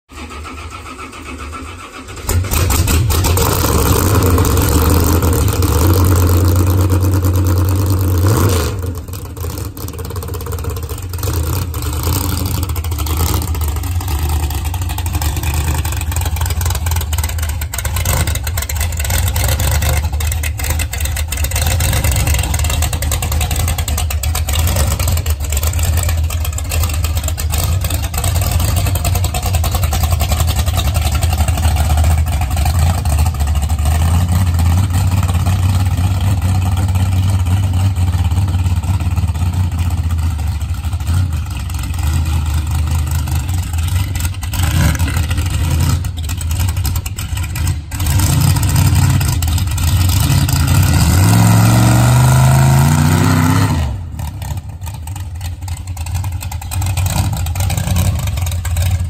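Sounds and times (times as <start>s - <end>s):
truck engine starting and idling: 0.0s - 59.0s.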